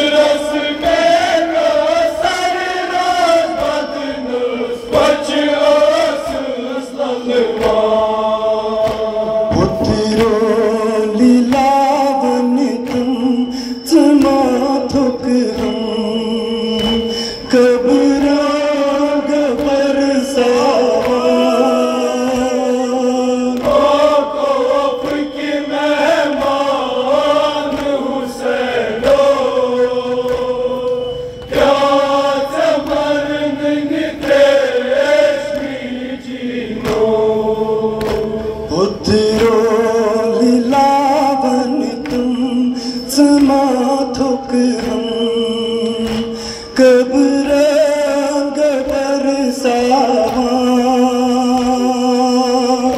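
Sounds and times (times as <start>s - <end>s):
men chanting a lament: 0.0s - 52.9s.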